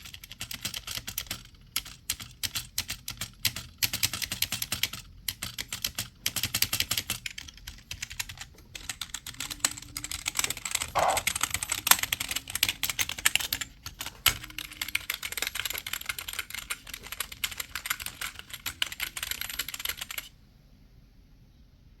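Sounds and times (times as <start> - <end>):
computer keyboard typing: 0.0 - 20.3.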